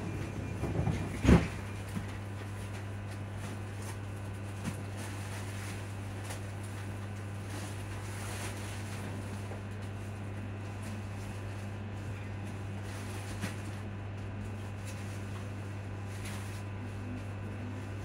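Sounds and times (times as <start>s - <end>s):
train cooling fans humming: 0.0s - 18.0s.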